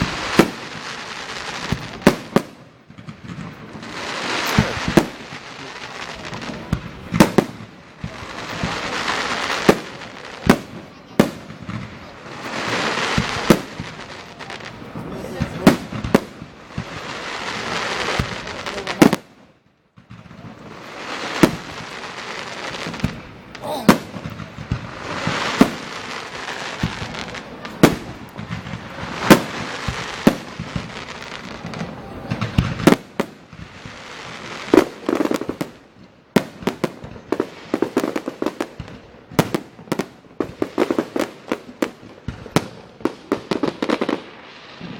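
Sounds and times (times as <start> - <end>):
fireworks bangs: 0.0 - 44.9
fireworks crackling hiss: 0.0 - 44.9.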